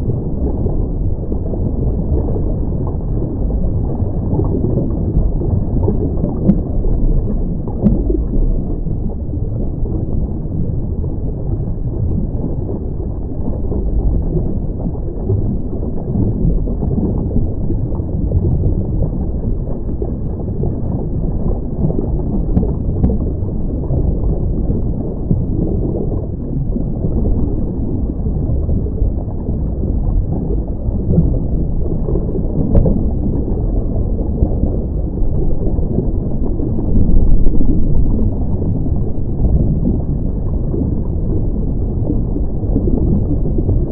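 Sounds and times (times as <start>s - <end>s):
muffled underwater rumble: 0.0s - 43.9s.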